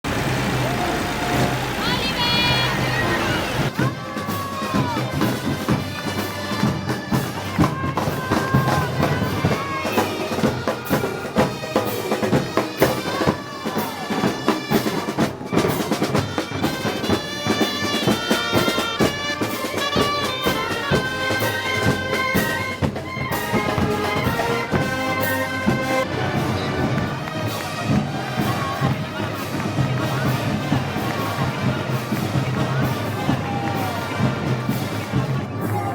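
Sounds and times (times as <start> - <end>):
drums beating: 0.0 - 35.9
wind instruments playing: 0.1 - 35.9.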